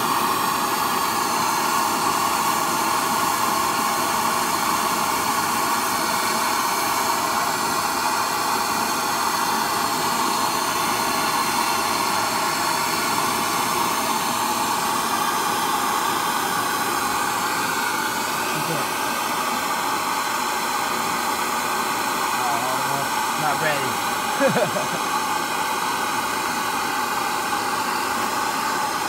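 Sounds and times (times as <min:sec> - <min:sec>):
blowtorch hissing: 0:00.0 - 0:29.0.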